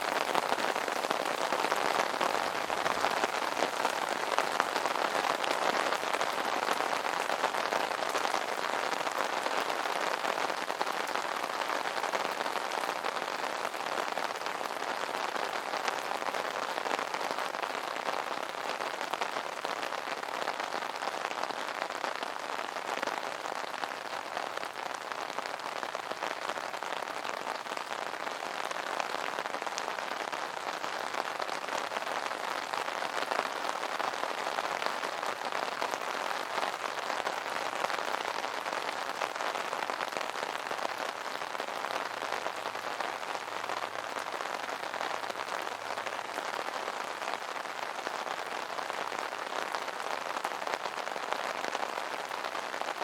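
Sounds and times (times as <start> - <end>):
rain pattering on an umbrella: 0.0 - 53.0.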